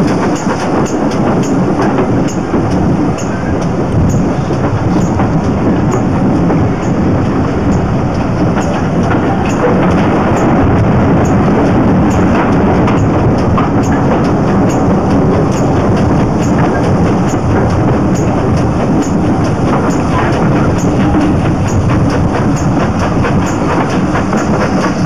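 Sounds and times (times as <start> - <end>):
train carriages rumbling: 0.0 - 25.0.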